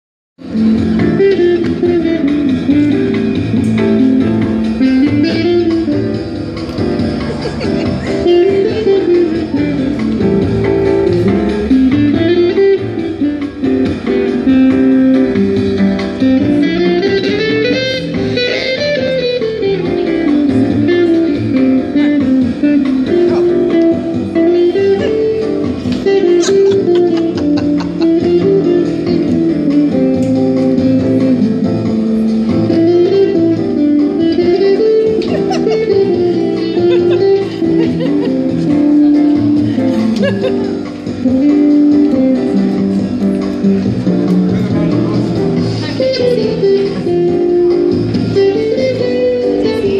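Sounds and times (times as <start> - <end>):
acoustic guitar playing: 0.4 - 49.9.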